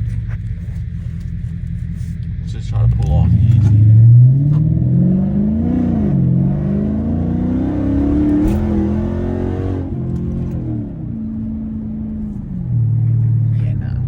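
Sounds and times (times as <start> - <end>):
car engine accelerating hard: 2.5 - 13.8.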